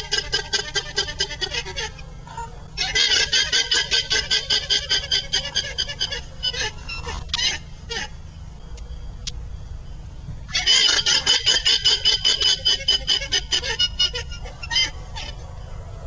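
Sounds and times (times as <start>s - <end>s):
llama crying: 0.0s - 8.2s, 10.5s - 15.6s.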